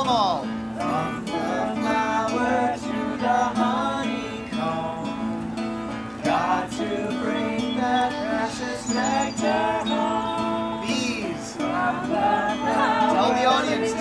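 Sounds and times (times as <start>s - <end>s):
acoustic guitar strumming: 0.0s - 14.0s
people singing: 0.8s - 14.0s.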